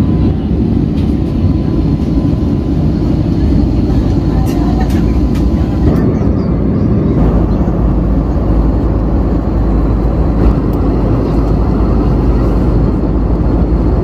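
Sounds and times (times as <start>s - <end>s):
airliner cabin engine rush: 0.0s - 14.0s.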